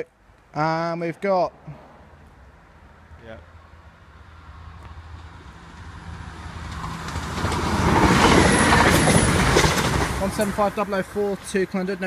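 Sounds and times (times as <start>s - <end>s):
train passing with engine hum: 1.5s - 12.0s.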